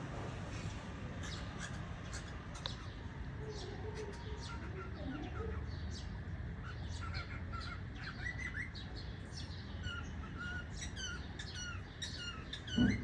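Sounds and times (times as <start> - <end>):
cockatiels chirping: 1.2 - 13.0.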